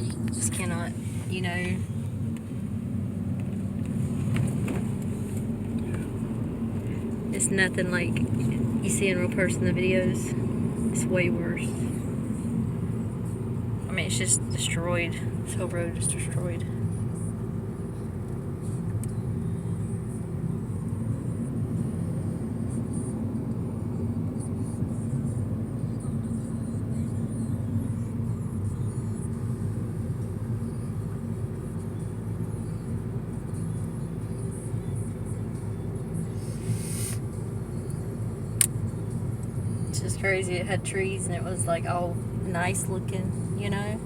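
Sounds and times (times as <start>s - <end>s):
car engine and tyres rumble: 0.0s - 44.0s.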